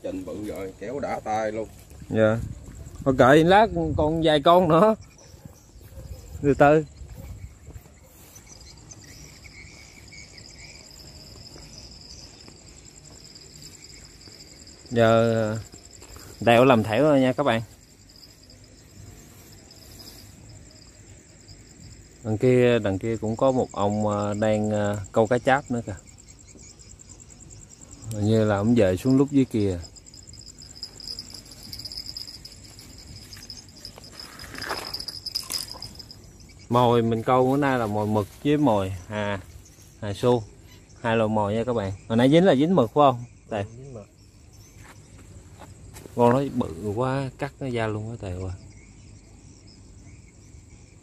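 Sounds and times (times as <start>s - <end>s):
crickets chirping: 0.0s - 51.0s
insects trilling: 0.0s - 51.0s.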